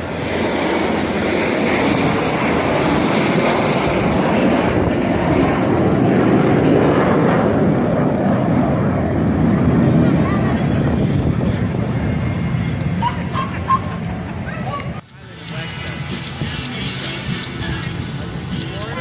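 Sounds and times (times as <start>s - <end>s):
aircraft engine roar: 0.0s - 19.0s.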